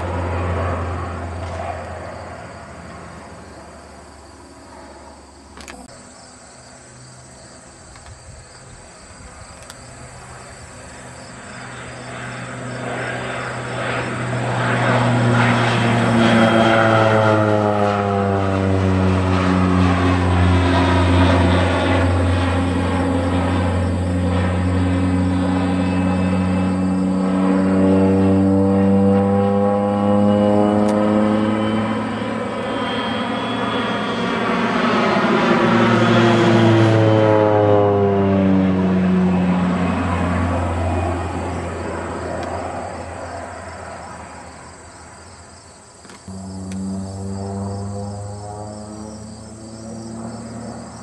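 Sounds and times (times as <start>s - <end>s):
propeller airplane engine drone: 0.0s - 51.0s.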